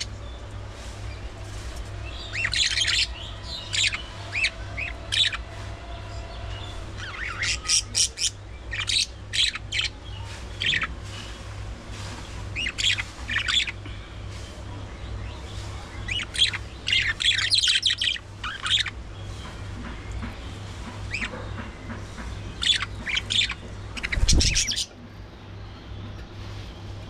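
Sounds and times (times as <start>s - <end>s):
budgerigars chirping and squawking: 0.0s - 0.2s, 0.8s - 14.0s, 15.3s - 24.9s
steady low hum: 0.0s - 27.0s.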